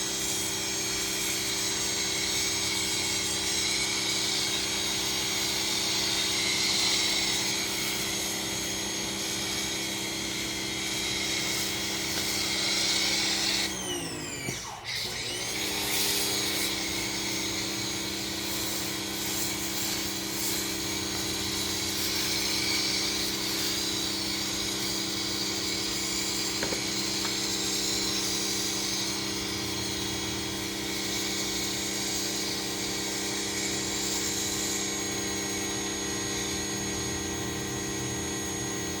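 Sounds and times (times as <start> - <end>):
pressure washer motor whine: 0.0 - 39.0.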